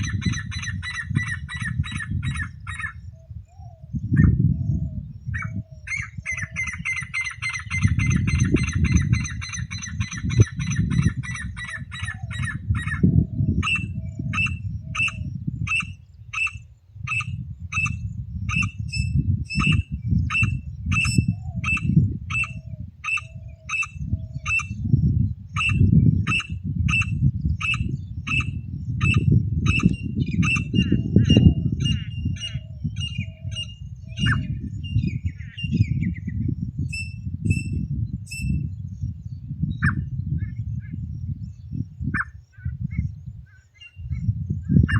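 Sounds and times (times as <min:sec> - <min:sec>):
partridge calling: 0:00.0 - 0:04.4, 0:05.3 - 0:24.9, 0:25.6 - 0:36.3, 0:39.8 - 0:40.6, 0:42.1 - 0:44.2.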